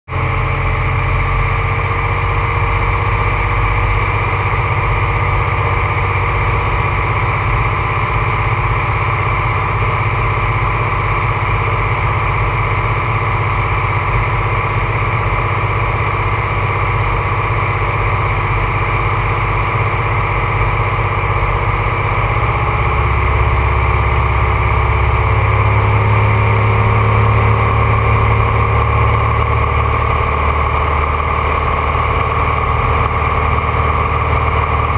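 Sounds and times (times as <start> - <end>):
airplane engine and propeller droning: 0.1 - 34.9.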